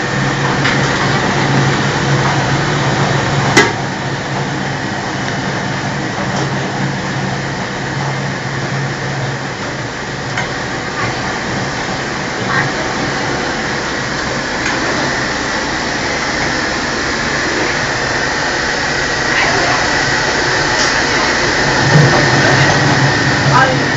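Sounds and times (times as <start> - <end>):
fryer machine humming and hissing: 0.0 - 23.9.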